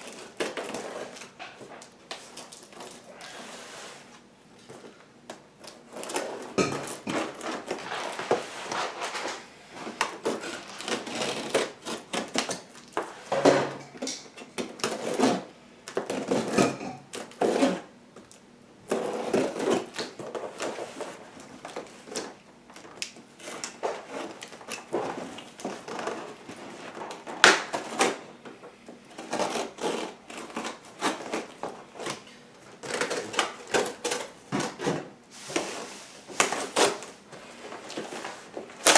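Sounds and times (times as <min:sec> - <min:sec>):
cardboard and plastic rustling: 0:00.0 - 0:13.8, 0:18.9 - 0:38.9.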